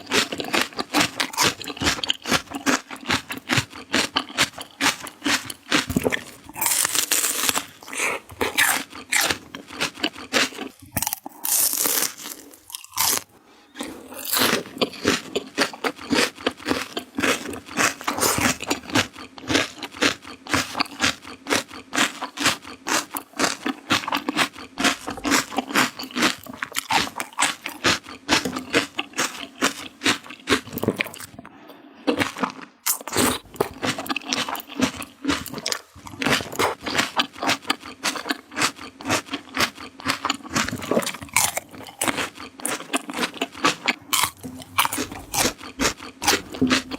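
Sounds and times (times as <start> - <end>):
crunching raw vegetables: 0.0 - 31.5, 32.1 - 46.9.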